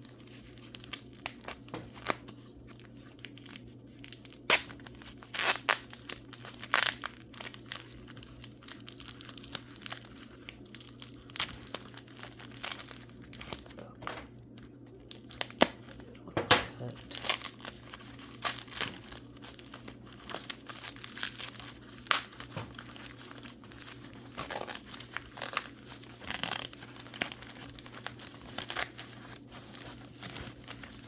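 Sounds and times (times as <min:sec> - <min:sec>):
wrapping material crinkling and tearing: 0:00.0 - 0:31.0.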